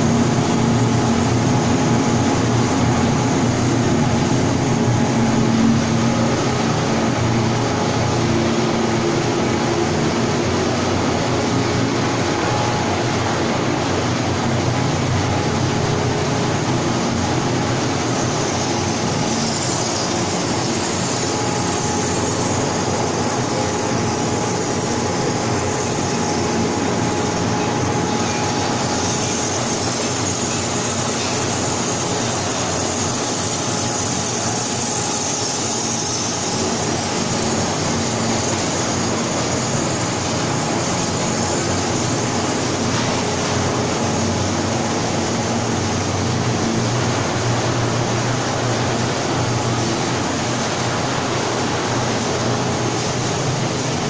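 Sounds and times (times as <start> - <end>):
food processing machinery hum: 0.0 - 54.0.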